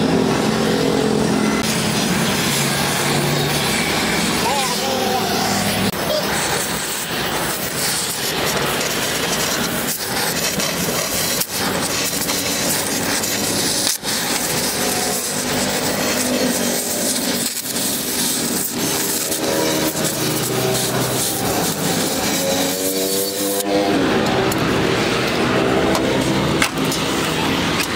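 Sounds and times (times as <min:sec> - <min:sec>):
welding torch flame hissing: 0:00.0 - 0:27.9.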